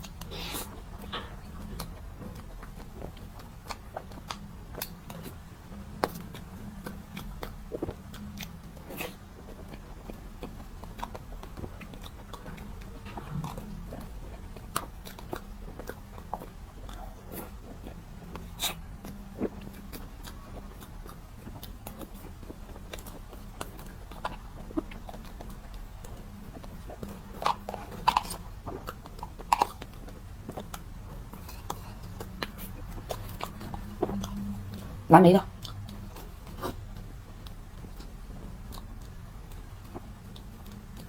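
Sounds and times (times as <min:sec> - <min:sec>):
chewing mouth clicks and smacks: 0:00.0 - 0:41.0
steady low hum: 0:00.0 - 0:41.0.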